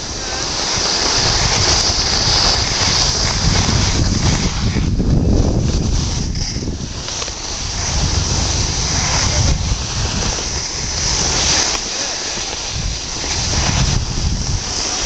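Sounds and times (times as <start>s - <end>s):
skis sliding on packed snow: 0.0s - 15.0s
wind buffeting microphone: 0.0s - 15.0s.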